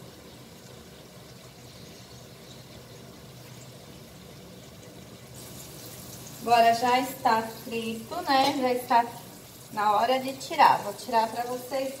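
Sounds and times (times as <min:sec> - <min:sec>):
food sizzling in hot oil: 0:01.4 - 0:12.0.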